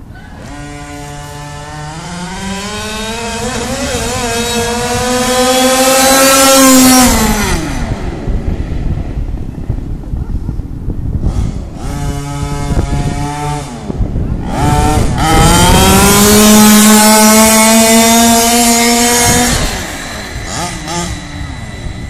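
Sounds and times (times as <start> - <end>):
rc car engine revving past: 0.3 - 9.8, 11.2 - 22.0.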